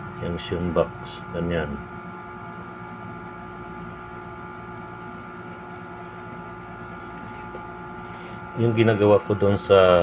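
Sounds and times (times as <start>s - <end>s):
machine hum with steady tones: 0.0s - 10.0s.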